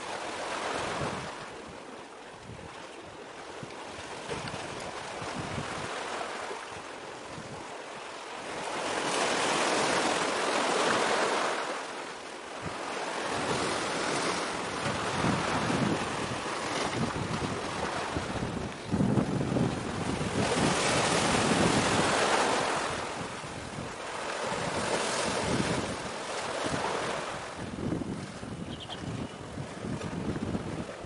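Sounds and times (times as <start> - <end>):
wind on microphone: 0.1 - 7.7, 12.5 - 31.0
sea waves washing: 3.4 - 31.0.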